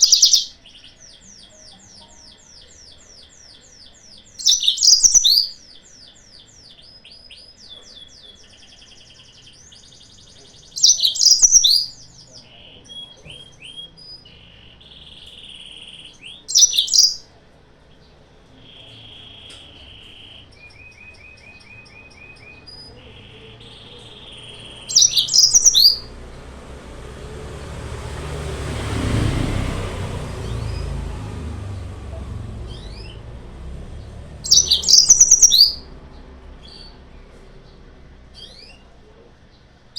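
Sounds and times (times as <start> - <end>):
canary song: 0.0 - 39.9.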